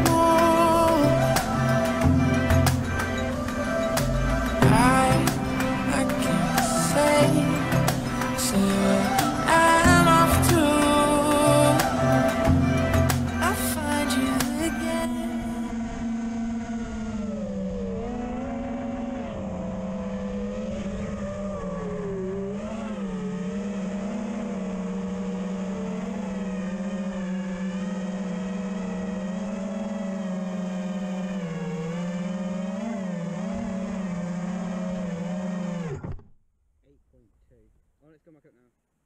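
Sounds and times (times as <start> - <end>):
drone motors whining: 0.0 - 36.4.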